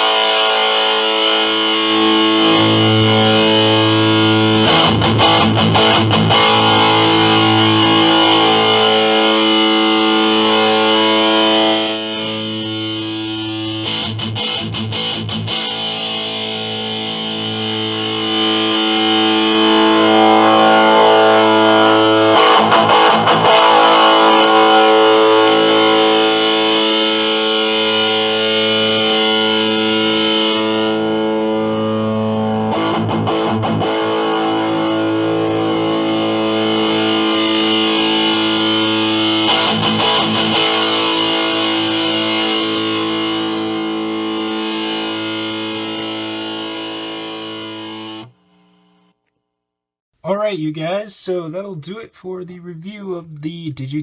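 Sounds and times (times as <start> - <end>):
distorted electric guitar: 0.0 - 49.2.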